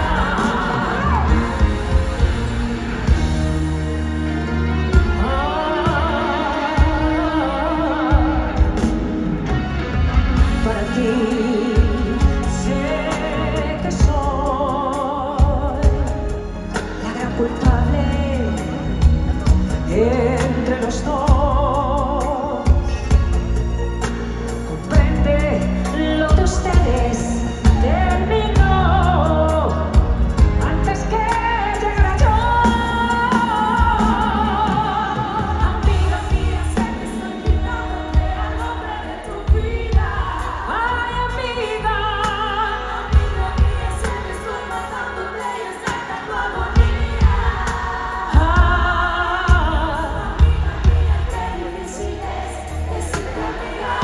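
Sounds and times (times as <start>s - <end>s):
live pop band: 0.0s - 54.0s.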